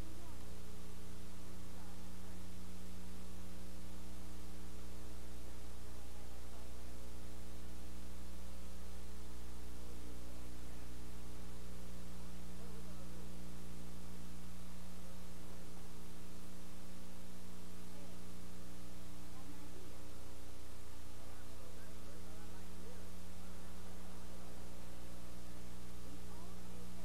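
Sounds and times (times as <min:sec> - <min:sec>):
mains hum: 0:00.0 - 0:27.0.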